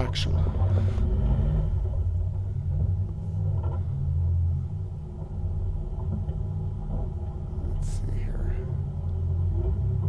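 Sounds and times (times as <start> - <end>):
engine rumbling at low revs: 0.0 - 10.0.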